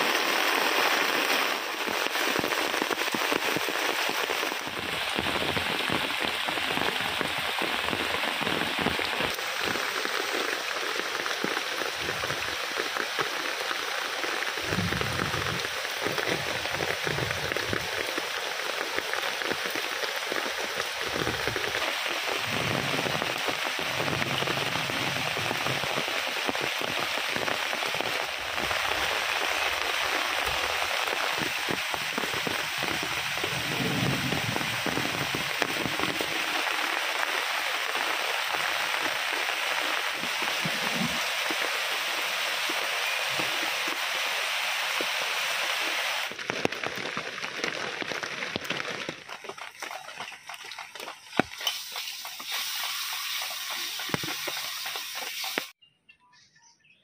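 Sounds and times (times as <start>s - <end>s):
heavy rain falling: 0.0s - 55.8s.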